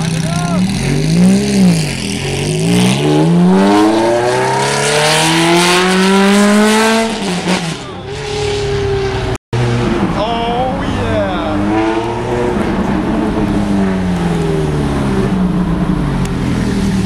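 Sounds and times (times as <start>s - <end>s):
sports car accelerating: 0.0s - 17.0s.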